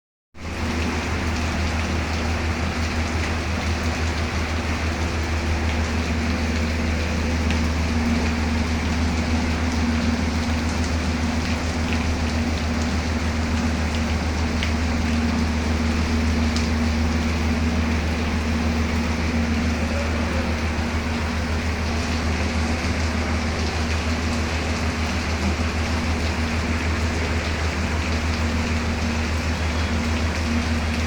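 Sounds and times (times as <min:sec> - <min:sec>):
low rumble and hum: 0:00.4 - 0:31.0
steady rain falling: 0:00.4 - 0:31.0.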